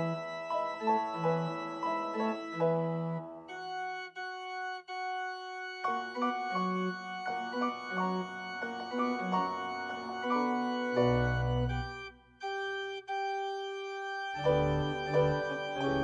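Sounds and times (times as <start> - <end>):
organ playing chords: 0.0 - 16.0.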